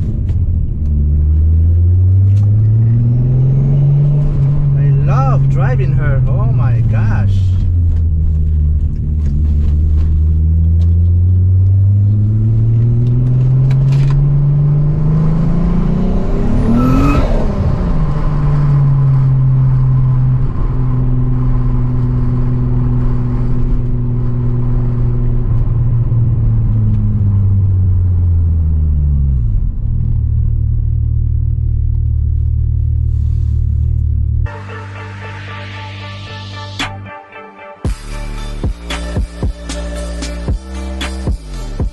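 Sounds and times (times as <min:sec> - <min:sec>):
car engine accelerating: 0:00.0 - 0:37.1.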